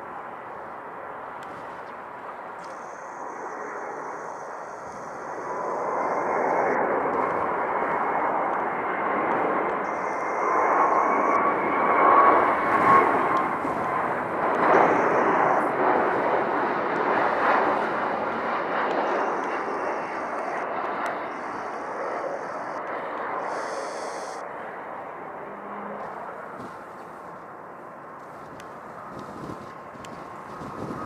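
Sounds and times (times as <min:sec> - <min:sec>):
jet engine rumble: 0:00.0 - 0:31.0
thin jet whine: 0:00.0 - 0:31.0.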